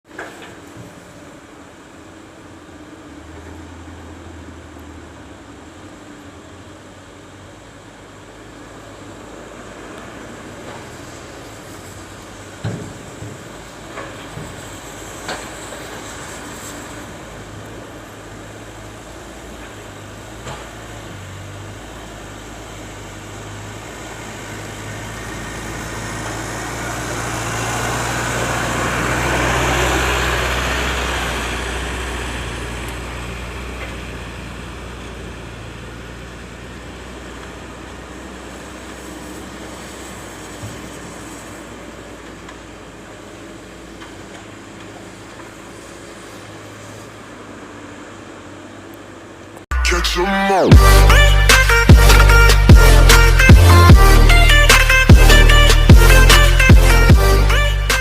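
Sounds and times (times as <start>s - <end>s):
heavy machinery diesel engines: 0.1s - 58.0s.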